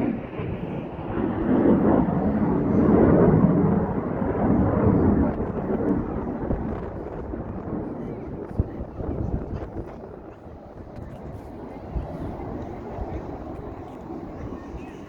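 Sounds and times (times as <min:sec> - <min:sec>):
aircraft passing overhead: 0:00.0 - 0:15.0.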